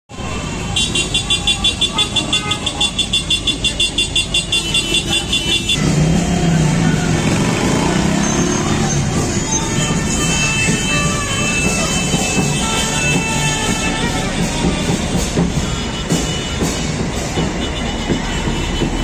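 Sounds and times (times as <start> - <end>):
motorcycles and cars in street: 0.1 - 19.0.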